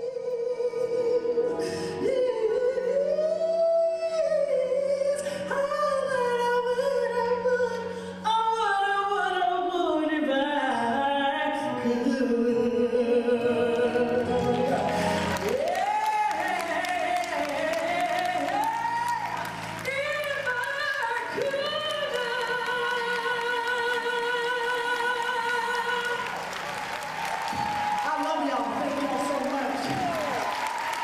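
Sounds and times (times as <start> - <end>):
woman singing into microphone: 0.0 - 26.4.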